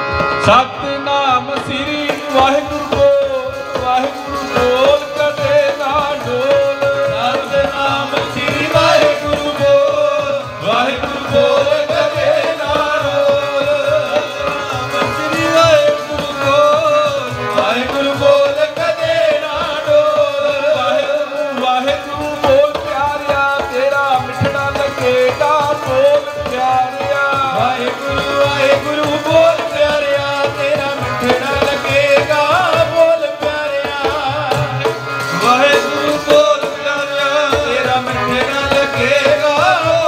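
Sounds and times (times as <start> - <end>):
sung devotional chant: 0.0 - 40.0
tabla drumming: 0.0 - 40.0.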